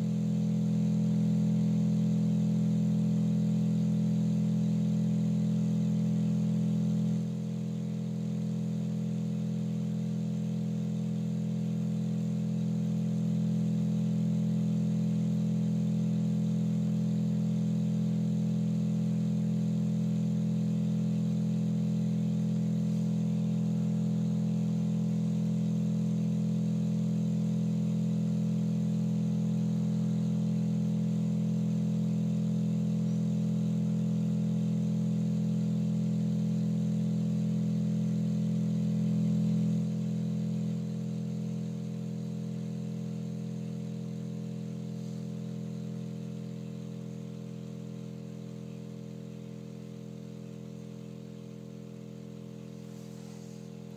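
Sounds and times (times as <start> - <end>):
low humming drone: 0.0 - 53.9.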